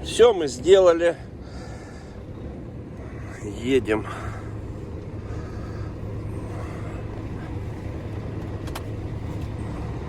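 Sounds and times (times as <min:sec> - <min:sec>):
road noise: 0:00.0 - 0:10.0
truck engine humming: 0:00.0 - 0:10.0.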